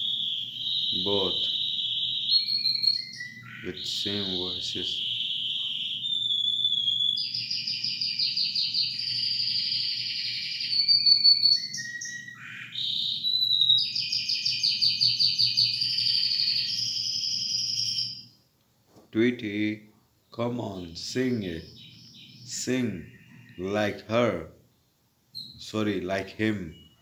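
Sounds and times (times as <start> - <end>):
canary trilling song: 0.0 - 18.5, 19.5 - 27.0.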